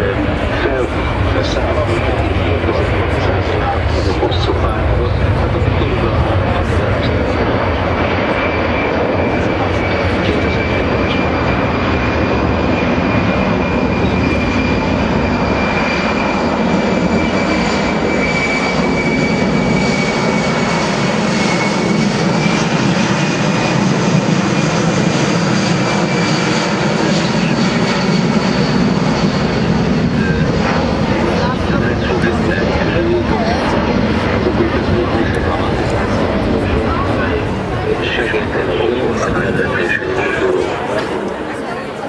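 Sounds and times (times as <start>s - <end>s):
jet aircraft flying overhead: 0.0s - 42.0s.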